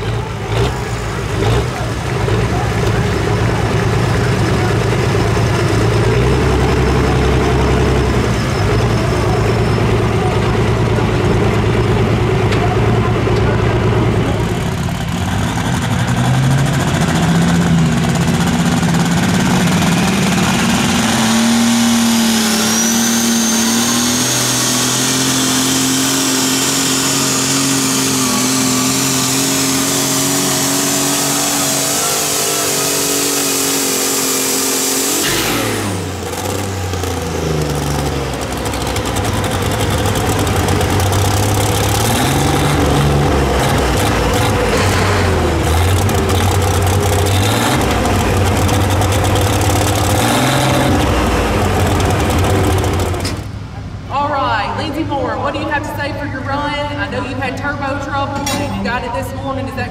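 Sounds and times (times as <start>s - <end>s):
engine revving under load: 0.0s - 54.2s.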